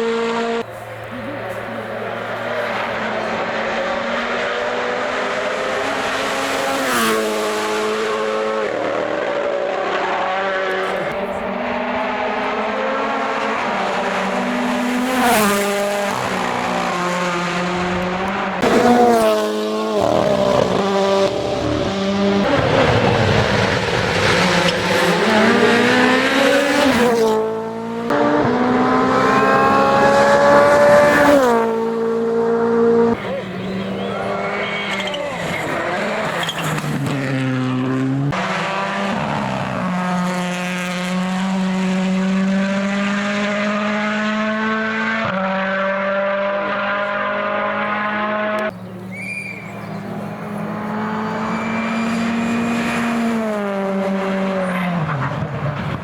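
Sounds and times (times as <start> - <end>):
rally car engines at full throttle: 0.0 - 56.0.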